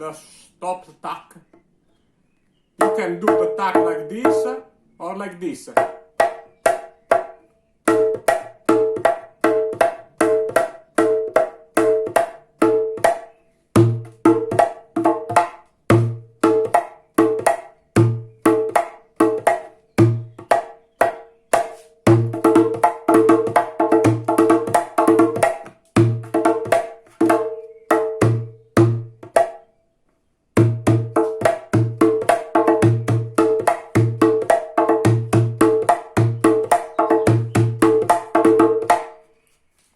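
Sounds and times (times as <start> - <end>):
hand drum rhythm: 2.8 - 4.6, 5.8 - 29.6, 30.6 - 39.2.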